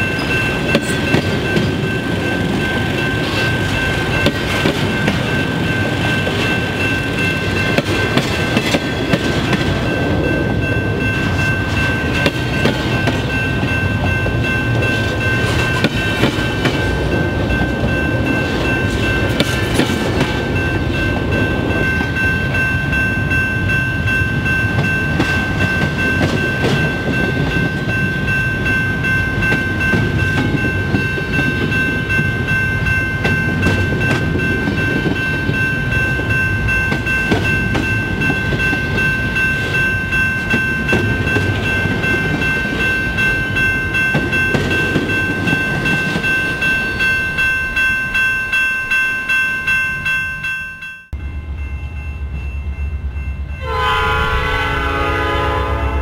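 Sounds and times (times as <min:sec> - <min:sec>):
freight train rumbling past: 0:00.0 - 0:50.5, 0:51.1 - 0:56.0.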